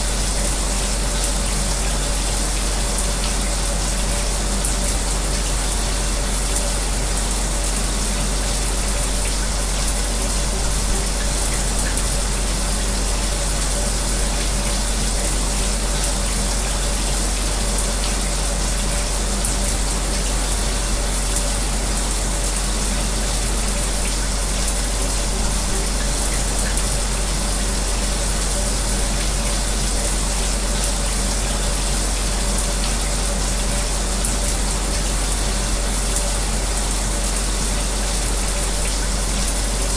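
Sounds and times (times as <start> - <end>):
fan humming: 0.0 - 39.9
shower water running: 0.0 - 39.9.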